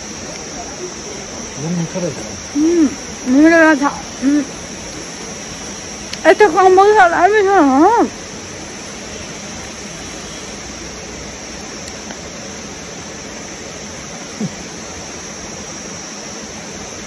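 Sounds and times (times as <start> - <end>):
faint high hum: 0.0 - 17.0
rushing outdoor background noise: 0.0 - 17.0.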